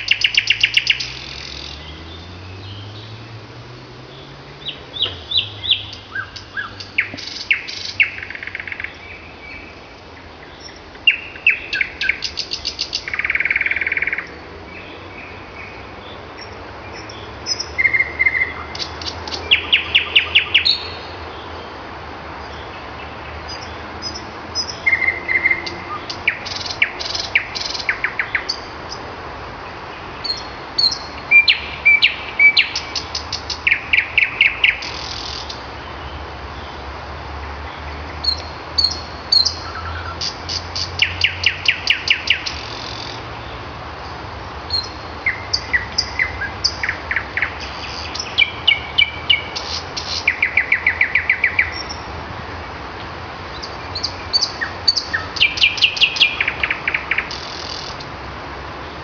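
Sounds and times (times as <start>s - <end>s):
nightingale singing: 0.0s - 21.8s, 22.4s - 29.1s, 29.9s - 36.8s, 37.7s - 43.6s, 44.7s - 52.1s, 53.4s - 58.1s.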